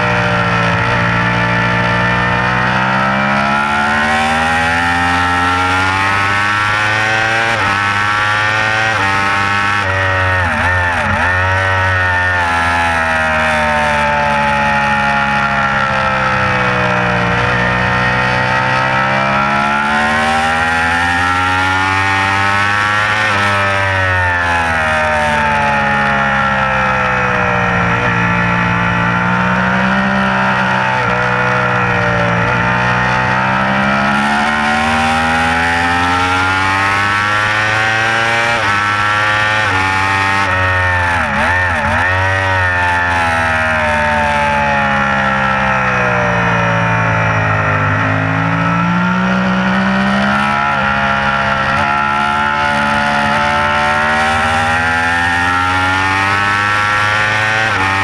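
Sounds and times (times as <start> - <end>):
motorcycle engine at racing speed: 0.0 - 58.0.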